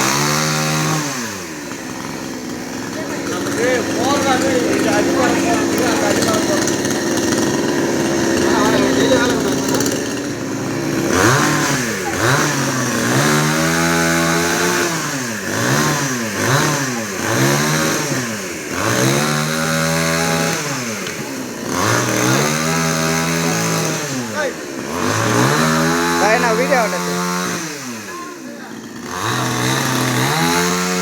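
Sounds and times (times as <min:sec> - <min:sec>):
chainsaw engine revving: 0:00.0 - 0:31.0.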